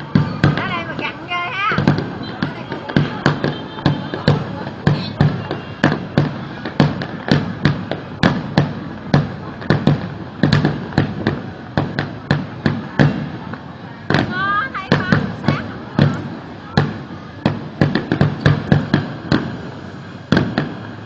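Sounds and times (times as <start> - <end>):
fireworks banging: 0.0 - 21.0.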